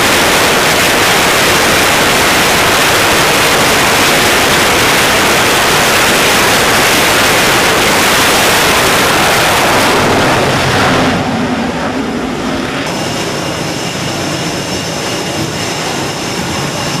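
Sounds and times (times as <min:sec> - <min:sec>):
high-pitched jet whine: 0:00.0 - 0:17.0
jet engines running: 0:00.0 - 0:17.0.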